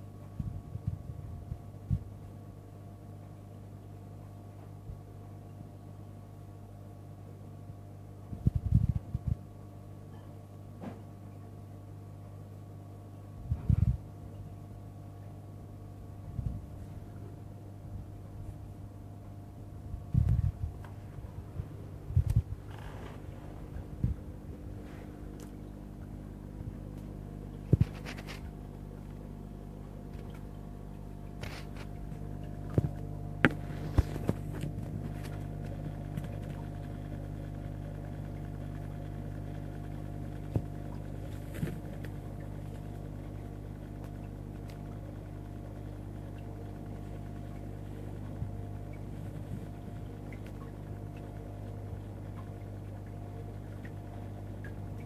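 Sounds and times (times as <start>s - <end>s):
aquarium pumps humming: 0.0s - 55.0s.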